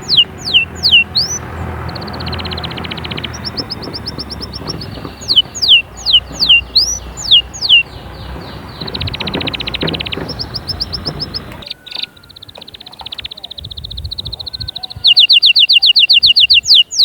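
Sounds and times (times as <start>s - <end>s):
canary singing trills and whistles: 0.0s - 17.0s.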